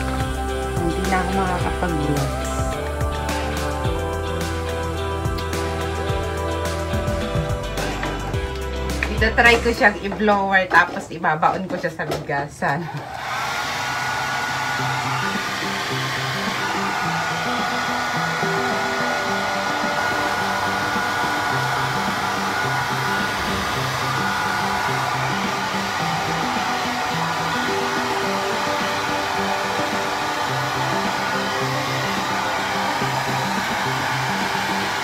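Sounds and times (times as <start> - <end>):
hair dryer running: 0.0 - 11.0, 12.8 - 35.0.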